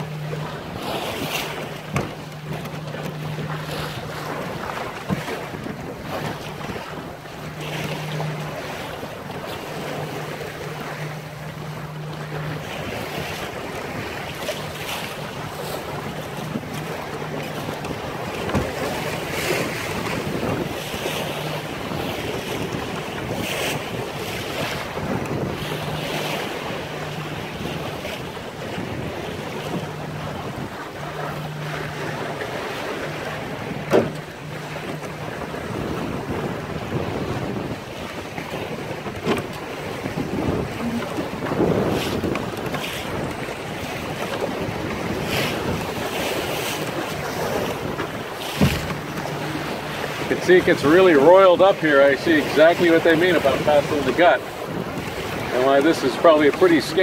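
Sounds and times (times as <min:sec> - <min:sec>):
waves slapping boat hull: 0:00.0 - 0:57.0
wind buffeting microphone: 0:00.0 - 0:57.0.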